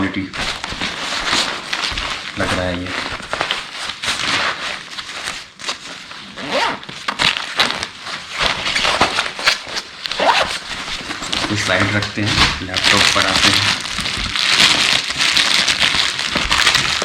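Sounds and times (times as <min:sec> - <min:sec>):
fabric backpack rustling: 0:00.4 - 0:17.0.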